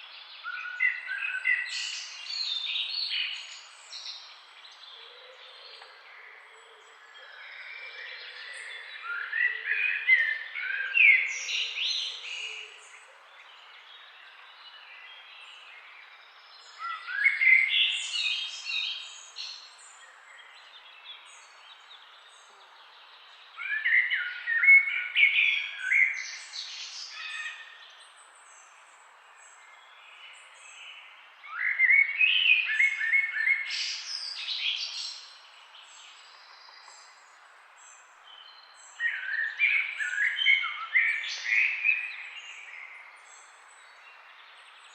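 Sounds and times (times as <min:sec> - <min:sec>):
faint background hiss: 0:00.0 - 0:09.4, 0:10.1 - 0:44.9
songbird chirping: 0:00.0 - 0:44.9.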